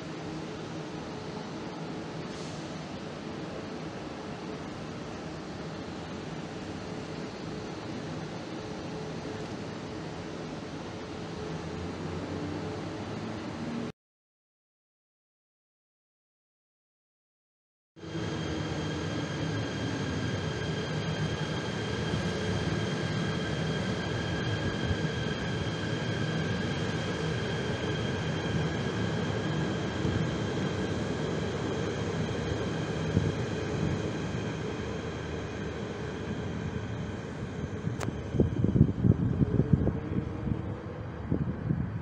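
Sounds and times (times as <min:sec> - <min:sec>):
electric train rumbling: 0:00.0 - 0:13.9, 0:18.0 - 0:42.0.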